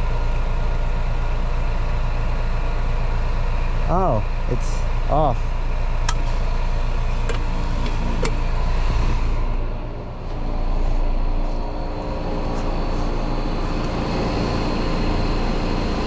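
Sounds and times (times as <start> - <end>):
air conditioning units humming: 0.0 - 16.0.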